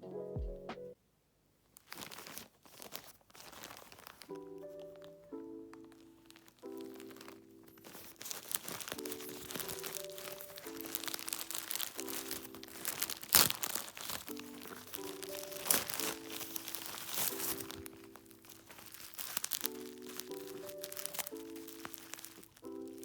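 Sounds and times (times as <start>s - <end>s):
soft background music: 0.0s - 1.0s, 3.7s - 23.0s
packaging crinkling: 1.8s - 23.0s.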